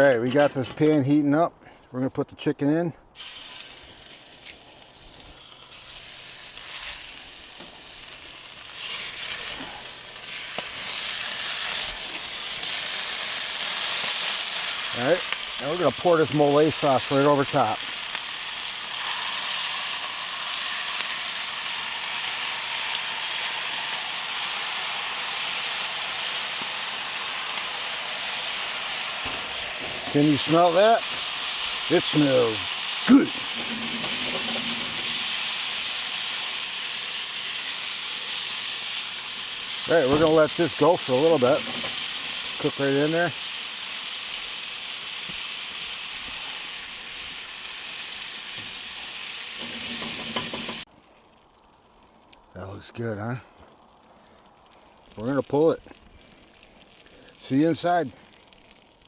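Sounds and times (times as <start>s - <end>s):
sauce sizzling in a hot pan: 3.2s - 52.5s.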